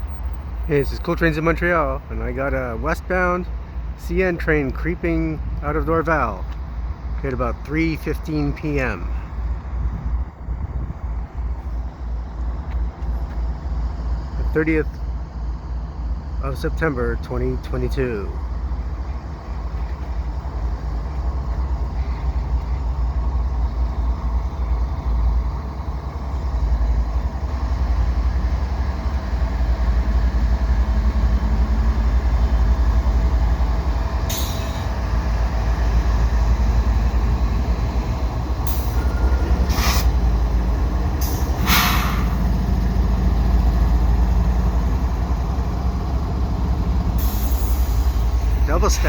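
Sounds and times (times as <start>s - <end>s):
freight train rumbling past: 0.0s - 49.0s.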